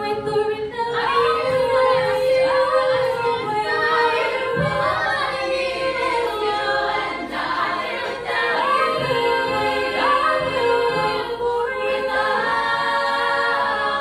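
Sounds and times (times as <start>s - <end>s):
women singing a cappella: 0.0s - 14.0s.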